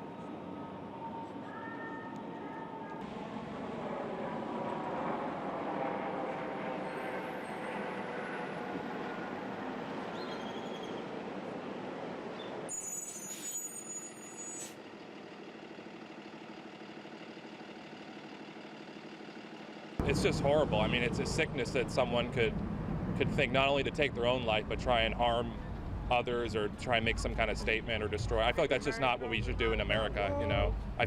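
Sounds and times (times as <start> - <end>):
traffic noise: 0.0 - 31.0.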